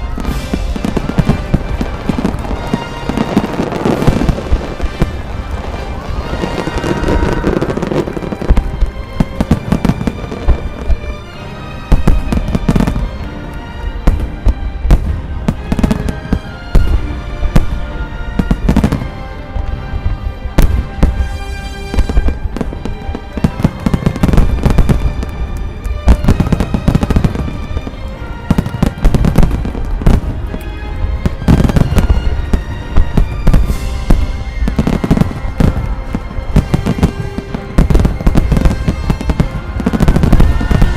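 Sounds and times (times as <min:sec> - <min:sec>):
fireworks booms and crackles: 0:00.0 - 0:40.9
music playing: 0:00.0 - 0:40.9.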